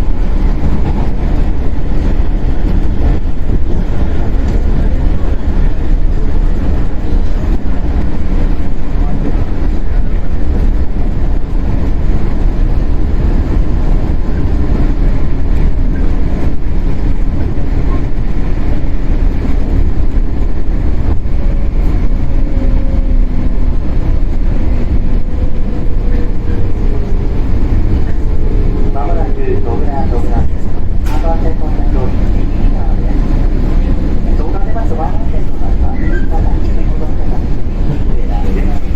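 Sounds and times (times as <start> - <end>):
train wheels and motors rumbling: 0.0 - 38.9.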